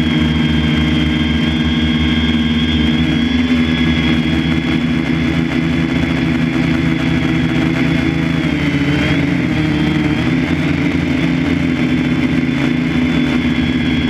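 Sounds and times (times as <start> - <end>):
motor humming with high whine: 0.0 - 14.0.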